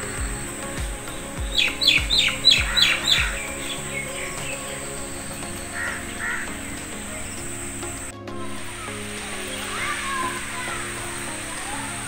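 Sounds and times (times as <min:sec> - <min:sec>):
background music with thumping beat: 0:00.0 - 0:11.8
bird calling falling notes: 0:00.0 - 0:12.0.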